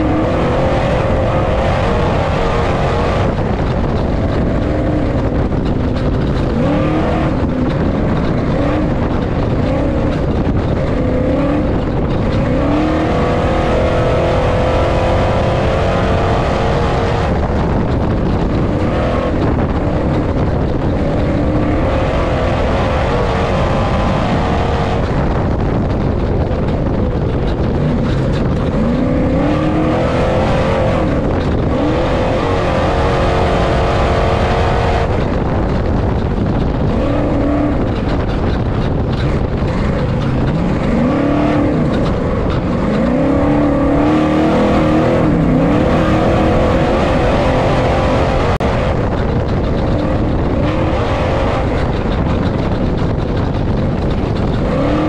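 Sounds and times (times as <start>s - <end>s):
race engine revving: 0.0s - 55.0s
road noise on dirt: 0.0s - 55.0s.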